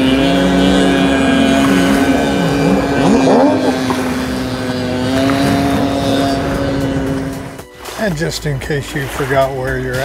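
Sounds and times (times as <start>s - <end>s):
motorboat engine droning: 0.0s - 10.0s
motorboat speeding past: 0.0s - 10.0s.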